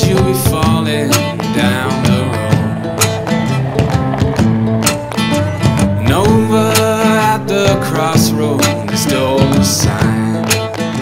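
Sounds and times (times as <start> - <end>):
song over steady beat: 0.0 - 11.0.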